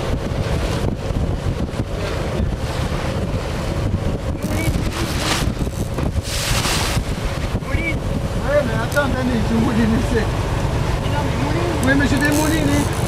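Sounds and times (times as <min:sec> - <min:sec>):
boat motor hum: 0:00.0 - 0:13.0
water rushing along hull: 0:00.0 - 0:13.0
wind buffeting microphone: 0:00.0 - 0:13.0.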